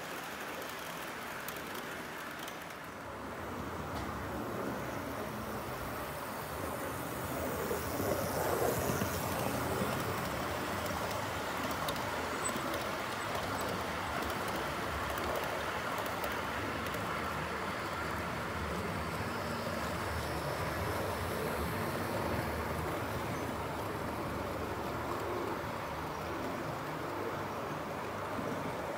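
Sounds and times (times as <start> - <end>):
model train wheels rumbling on rails: 0.0 - 28.9.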